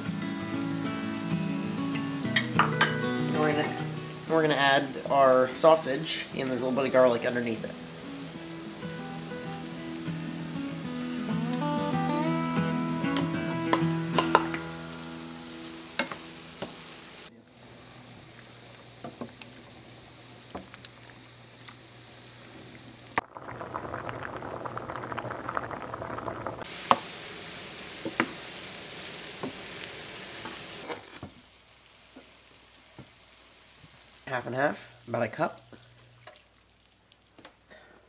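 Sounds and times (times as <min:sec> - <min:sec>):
food sizzling in skillet: 0:00.0 - 0:37.1
pasta water boiling: 0:02.3 - 0:11.0, 0:13.7 - 0:38.0.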